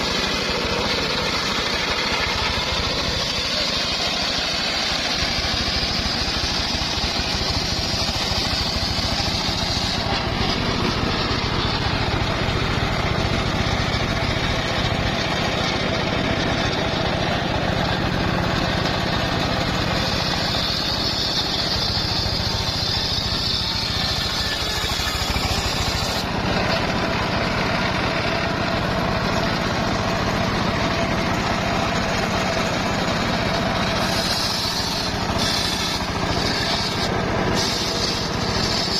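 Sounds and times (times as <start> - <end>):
saw blade whine cutting log: 0.0 - 38.9
sawmill engine running: 0.0 - 38.9.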